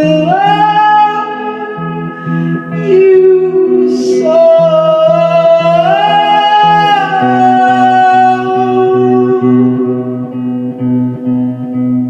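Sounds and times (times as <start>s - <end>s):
guitar accompaniment: 0.0s - 12.0s.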